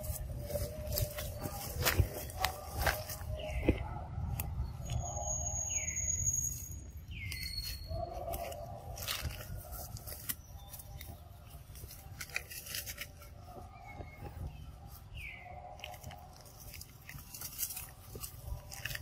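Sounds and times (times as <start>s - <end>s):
rustling in saplings: 0.0s - 5.0s, 7.1s - 19.0s
twigs clicking: 0.0s - 5.1s, 7.1s - 19.0s.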